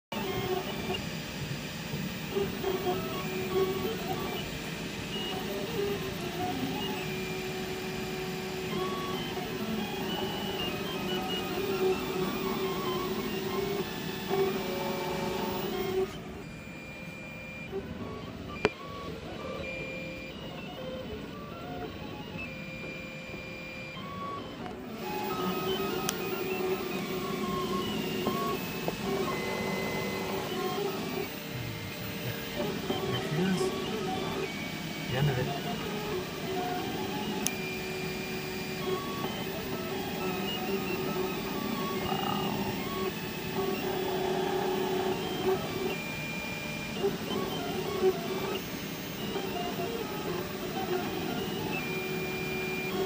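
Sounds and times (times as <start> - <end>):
stepper motors whining: 0.1 - 53.0.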